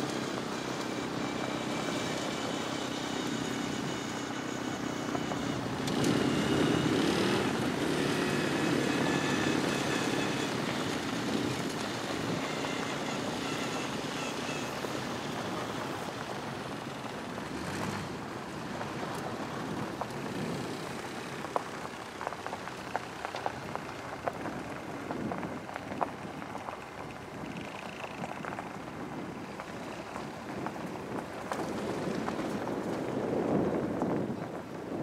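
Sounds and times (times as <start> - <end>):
vehicle rushing over rough ground: 0.0 - 35.0.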